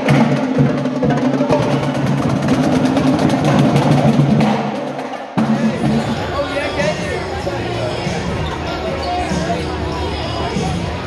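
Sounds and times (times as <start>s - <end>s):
drums playing fast rhythm: 0.0s - 9.8s.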